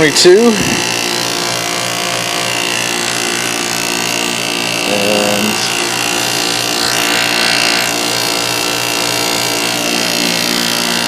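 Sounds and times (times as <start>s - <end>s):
machine motor hum: 0.0s - 11.0s.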